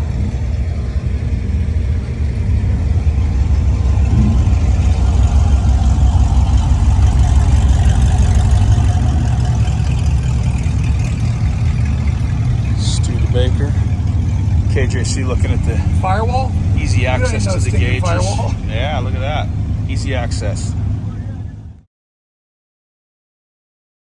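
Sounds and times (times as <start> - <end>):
car engine rumbling: 0.0 - 21.9.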